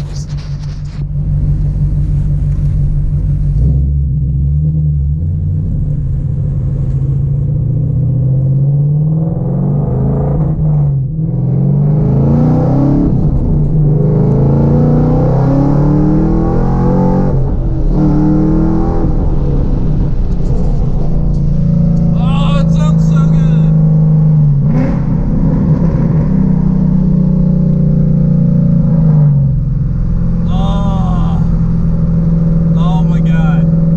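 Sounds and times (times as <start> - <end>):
car exhaust accelerating: 0.0 - 33.9.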